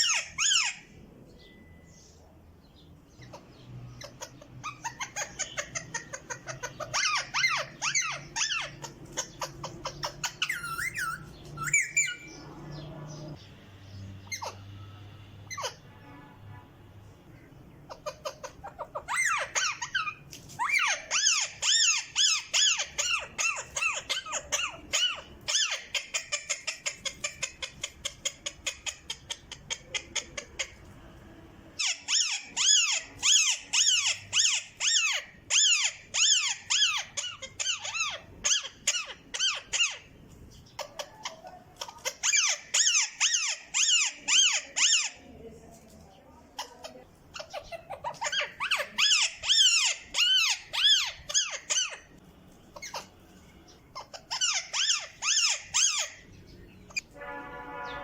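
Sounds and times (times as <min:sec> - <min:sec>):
parrot giving high squeaky calls: 0:00.0 - 0:01.0, 0:03.1 - 0:13.4, 0:14.2 - 0:15.9, 0:17.7 - 0:30.9, 0:31.7 - 0:45.4, 0:46.6 - 0:58.0.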